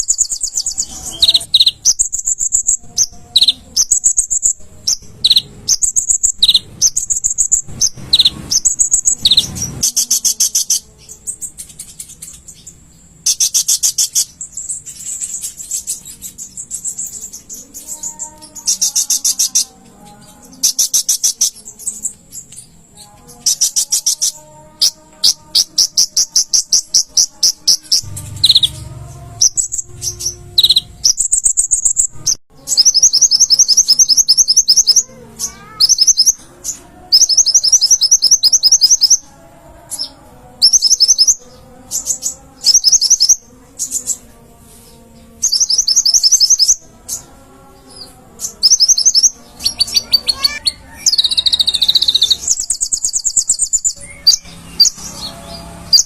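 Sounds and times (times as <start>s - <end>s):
bird trilling: 0.0s - 22.5s, 23.4s - 44.1s, 45.4s - 47.2s, 48.1s - 56.0s.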